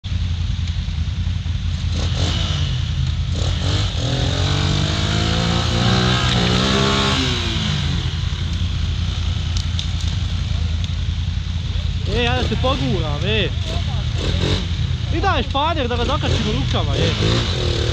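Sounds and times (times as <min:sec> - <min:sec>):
atv engine revving: 0:01.5 - 0:17.9.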